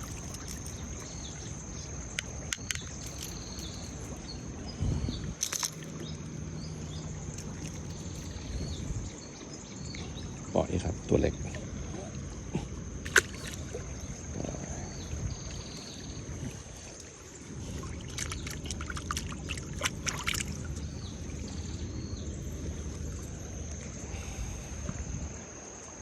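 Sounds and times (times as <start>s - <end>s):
high insect drone: 0.0s - 26.0s
outdoor background noise: 0.0s - 26.0s.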